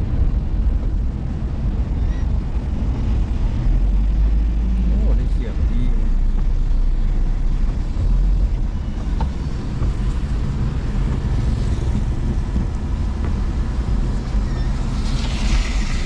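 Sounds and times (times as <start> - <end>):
car engine and tyres on wet road: 0.0 - 16.0.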